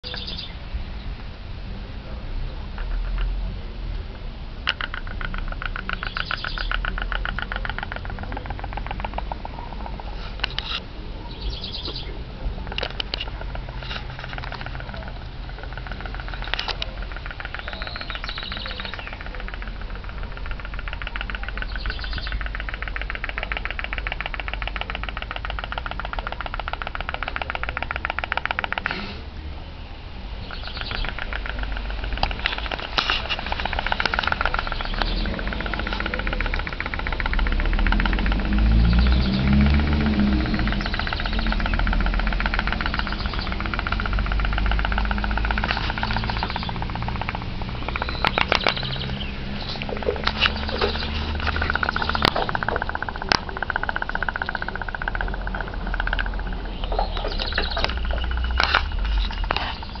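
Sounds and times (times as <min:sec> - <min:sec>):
sharp clicks: 0:00.0 - 0:00.5, 0:02.7 - 0:03.5, 0:04.6 - 0:29.3, 0:30.4 - 1:00.0
toy boat engine putt-putt: 0:04.7 - 0:10.6, 0:12.6 - 0:29.2, 0:30.5 - 1:00.0.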